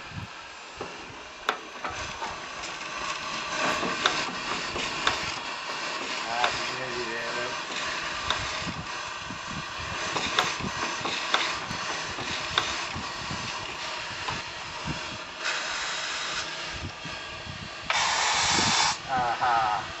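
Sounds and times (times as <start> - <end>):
steam hissing from boiler: 0.0 - 20.0.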